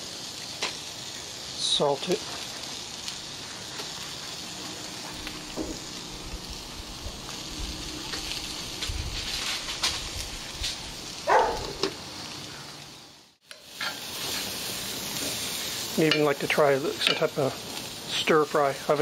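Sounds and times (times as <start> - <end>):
small crackles: 0.0 - 19.0
vegetables sizzling in oil: 0.0 - 19.0.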